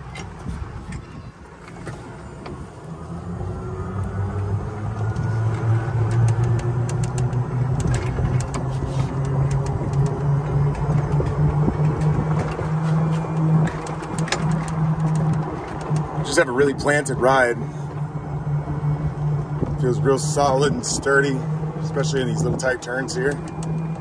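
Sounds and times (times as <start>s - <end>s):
electric cart motor hum: 0.0s - 24.0s
tyre and wind rumble: 0.0s - 24.0s.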